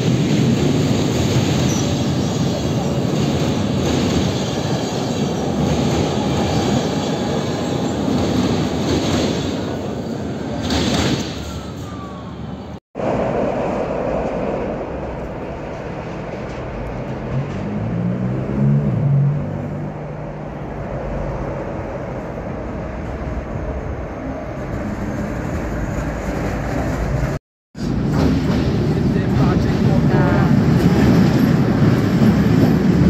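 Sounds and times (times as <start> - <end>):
street traffic: 0.0 - 33.0
train rumbling: 0.0 - 33.0.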